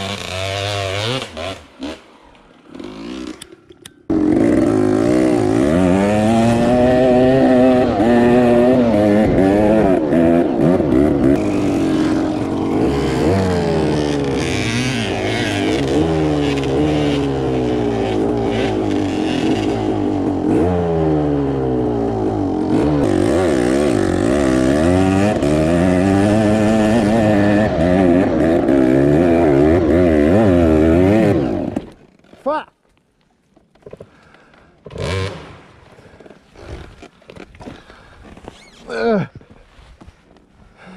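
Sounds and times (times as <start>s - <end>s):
engine revving: 0.0s - 32.0s, 34.9s - 35.8s.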